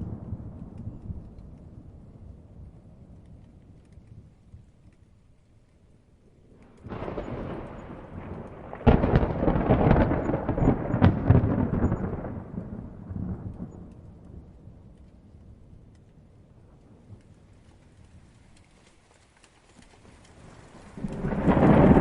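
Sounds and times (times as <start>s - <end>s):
thunder rumbling and cracking: 0.0s - 5.0s, 6.3s - 18.6s, 20.0s - 22.0s.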